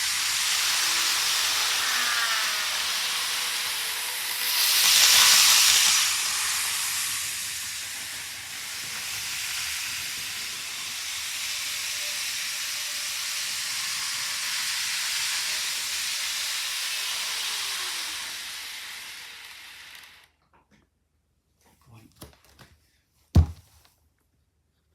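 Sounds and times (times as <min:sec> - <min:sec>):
model train running on track: 0:00.0 - 0:20.3.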